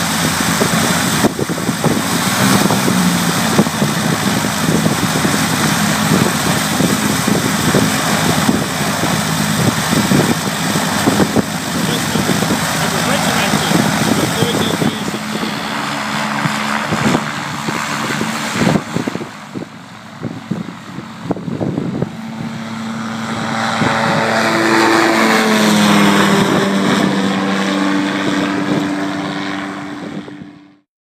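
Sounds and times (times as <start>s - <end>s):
light aircraft engine drone: 0.0s - 30.8s.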